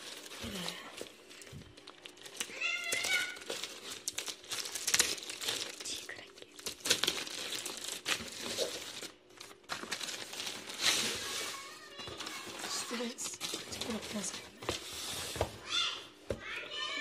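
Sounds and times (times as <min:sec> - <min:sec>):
plastic mailer bag crinkling: 0:00.0 - 0:15.0.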